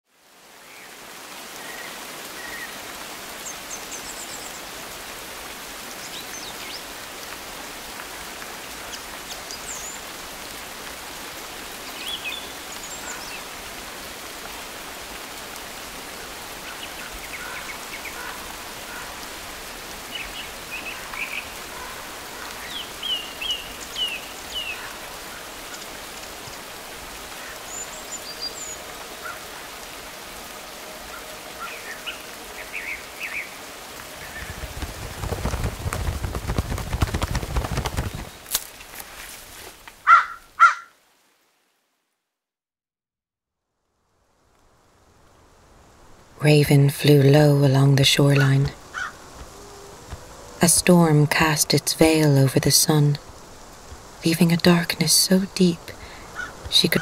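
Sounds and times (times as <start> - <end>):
steady rain: 0.0 - 42.3, 43.6 - 57.0.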